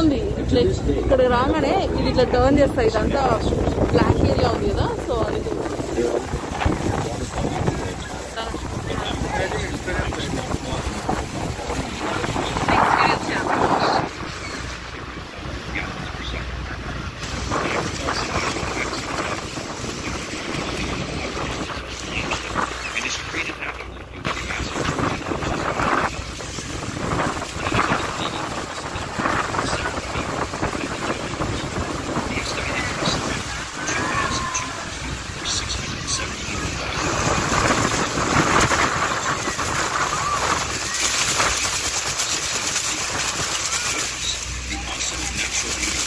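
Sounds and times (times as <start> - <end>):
churning river: 0.0 - 46.0
waterfall rushing: 0.0 - 46.0
wind buffeting microphone: 0.0 - 46.0.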